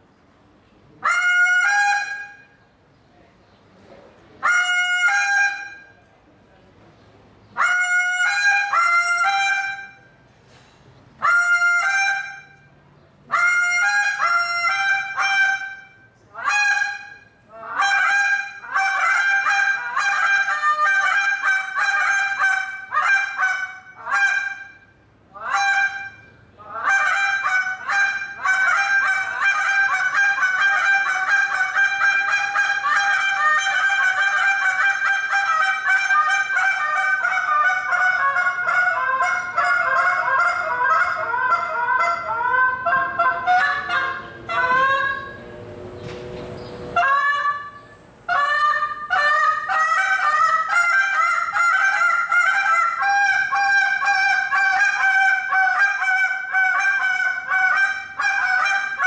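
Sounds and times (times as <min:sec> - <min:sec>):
goose call honks and clucks: 0:01.0 - 0:02.5, 0:04.4 - 0:05.9, 0:07.6 - 0:10.0, 0:11.2 - 0:12.7, 0:13.3 - 0:45.5, 0:47.0 - 0:59.0.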